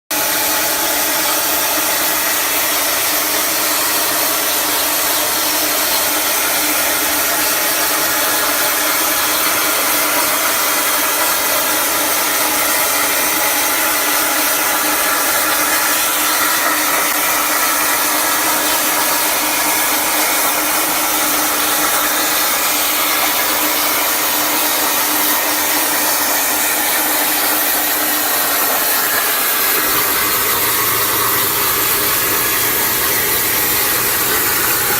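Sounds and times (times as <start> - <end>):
plasma torch cutting steel: 0.2 - 34.9.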